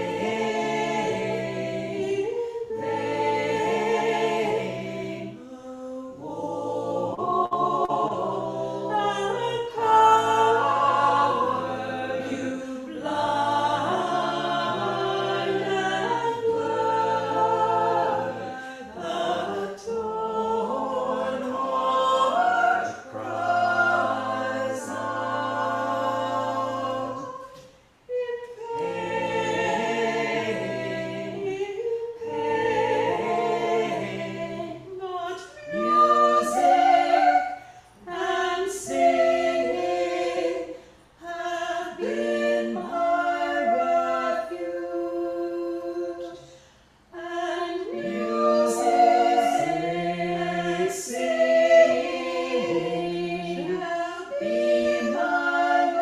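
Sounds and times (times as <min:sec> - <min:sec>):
vocal group singing a cappella: 0:00.0 - 0:56.0.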